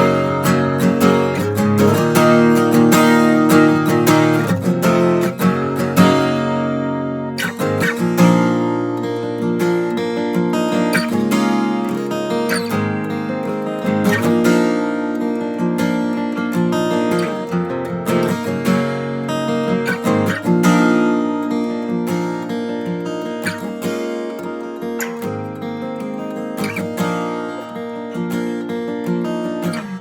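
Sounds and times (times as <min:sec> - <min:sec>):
acoustic guitar strummed chords: 0:00.0 - 0:30.0.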